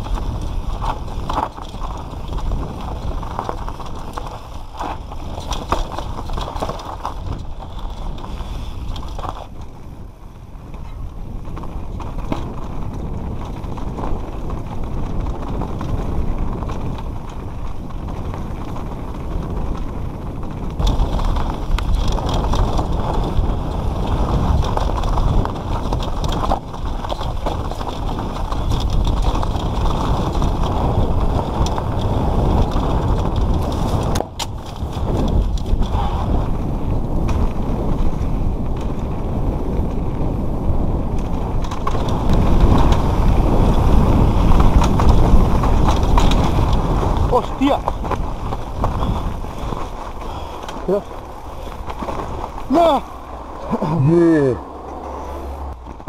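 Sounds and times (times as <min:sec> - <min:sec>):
bike chain and frame rattling: 0:00.0 - 0:53.9
bike tyres rumbling over dirt: 0:00.0 - 0:56.0.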